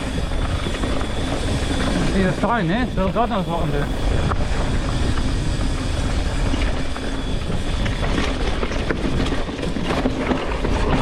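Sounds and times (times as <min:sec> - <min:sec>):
tyres on dirt: 0:00.0 - 0:11.0
wind on microphone: 0:00.0 - 0:11.0.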